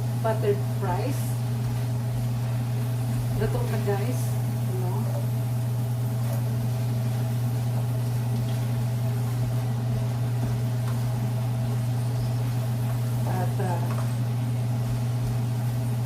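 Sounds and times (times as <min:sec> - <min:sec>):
low motor hum: 0:00.0 - 0:16.0
oil frying crackles: 0:00.0 - 0:16.0.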